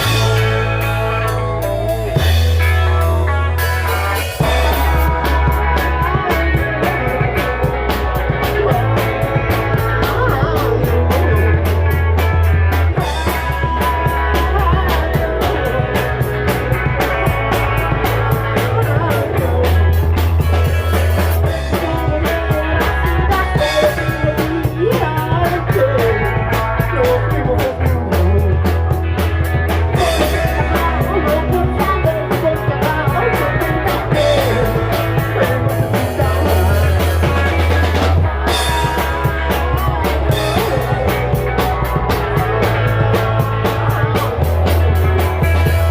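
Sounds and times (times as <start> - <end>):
bass notes: 0.0 - 45.9
drum kit fast beat: 0.0 - 45.9
guitar: 0.0 - 45.9.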